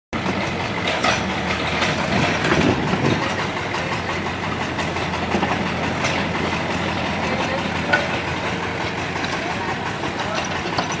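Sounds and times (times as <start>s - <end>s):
diesel engine running: 0.1s - 11.0s
sharp metal clanks: 0.3s - 11.0s.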